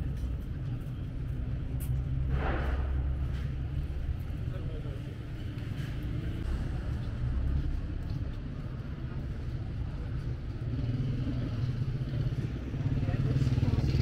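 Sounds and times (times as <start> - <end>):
motorbike engines: 0.0 - 14.0
traffic rumble: 0.0 - 14.0.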